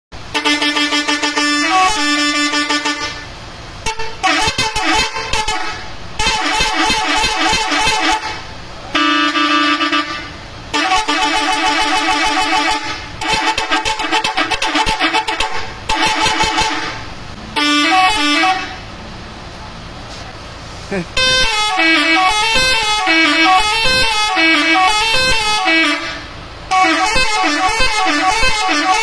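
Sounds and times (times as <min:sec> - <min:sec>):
musical bus air horns tooting: 0:00.2 - 0:19.1, 0:20.1 - 0:29.0.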